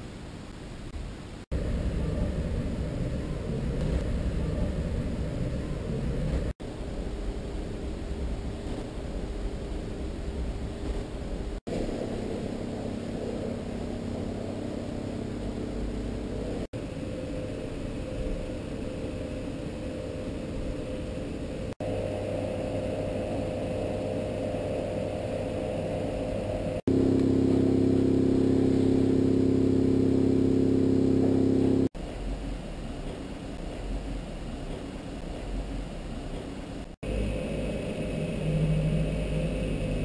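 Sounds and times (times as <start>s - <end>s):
droning hum: 0.0s - 40.0s.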